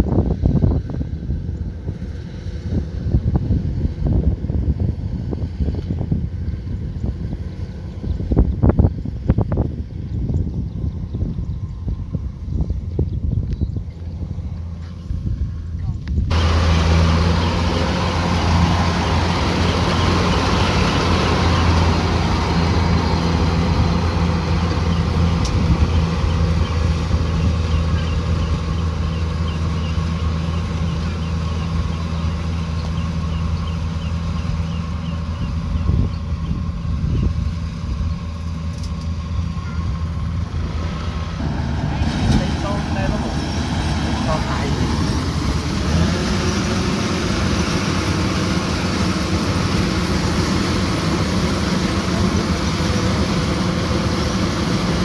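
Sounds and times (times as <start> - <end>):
combine harvester running: 0.0 - 12.8, 13.8 - 55.0.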